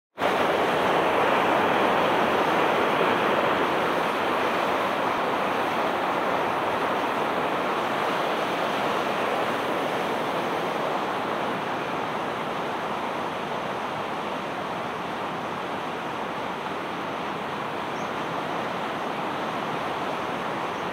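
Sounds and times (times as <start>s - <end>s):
fast-flowing water rushing: 0.2s - 20.9s.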